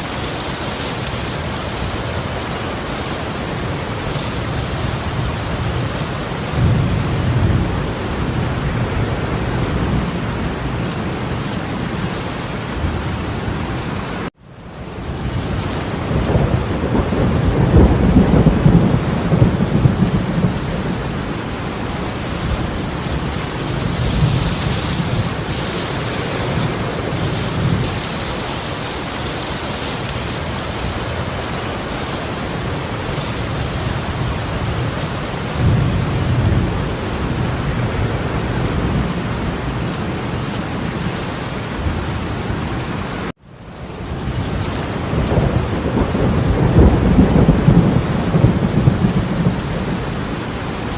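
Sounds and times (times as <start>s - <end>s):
torrential rain pouring: 0.0s - 50.9s.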